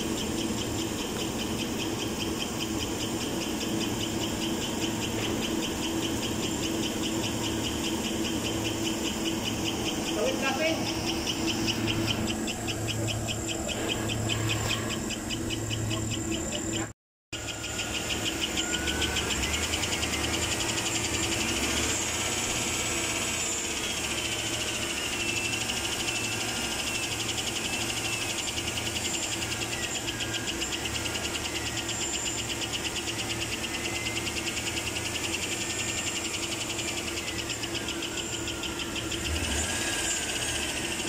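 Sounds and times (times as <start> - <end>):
engine idling: 0.0 - 41.0
rapid steady engine ticking: 0.0 - 41.0.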